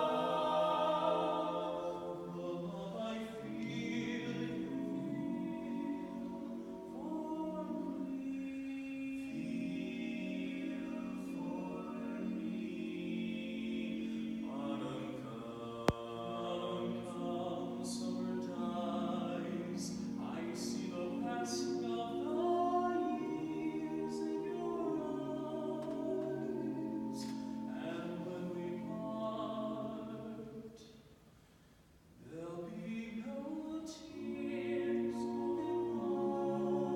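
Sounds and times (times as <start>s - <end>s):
a cappella close harmony singing: 0.0s - 31.0s, 32.2s - 36.9s.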